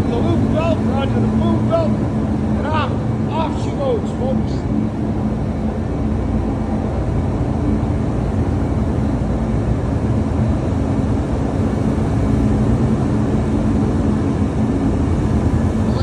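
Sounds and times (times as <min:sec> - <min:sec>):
conveyor machinery rumble: 0:00.0 - 0:16.0.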